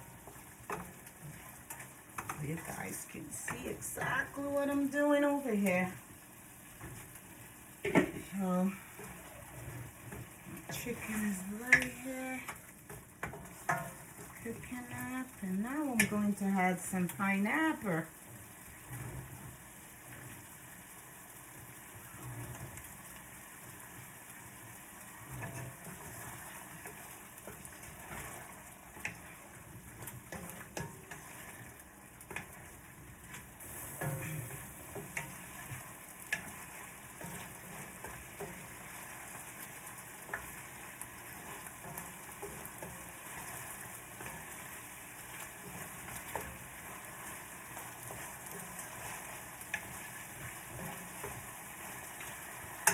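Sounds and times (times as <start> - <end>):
chicken sizzling in a pan: 0.0 - 52.9.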